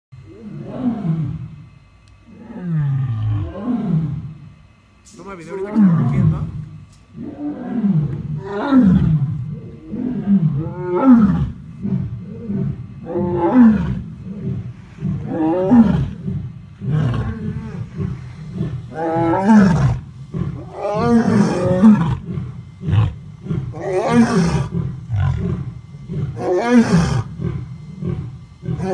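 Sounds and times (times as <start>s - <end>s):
lions roaring: 0.2s - 1.7s, 2.3s - 4.4s, 5.6s - 28.9s.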